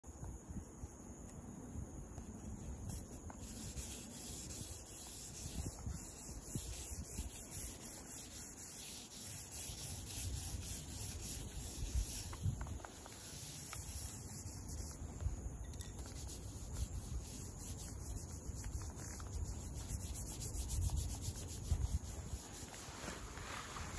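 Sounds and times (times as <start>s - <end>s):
charcoal rubbing on paper: 2.9s - 15.0s, 16.0s - 23.9s.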